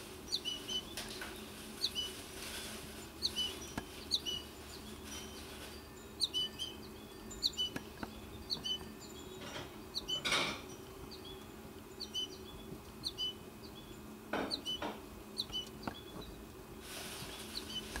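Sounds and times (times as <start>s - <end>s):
steady low hum: 0.0s - 18.0s
bird fledgling chirping: 0.2s - 16.4s, 17.1s - 18.0s.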